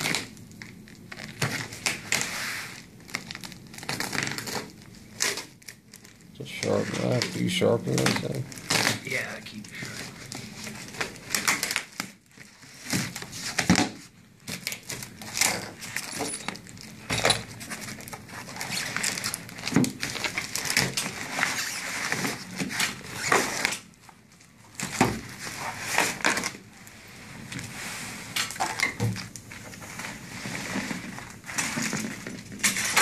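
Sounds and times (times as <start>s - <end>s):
cardboard and foam rustling: 0.0s - 33.0s.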